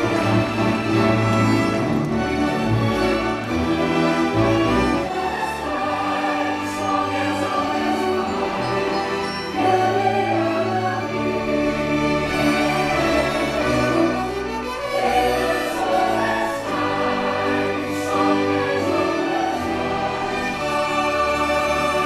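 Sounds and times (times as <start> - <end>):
choir singing sustained chords: 0.0 - 22.0
orchestral music: 0.0 - 22.0.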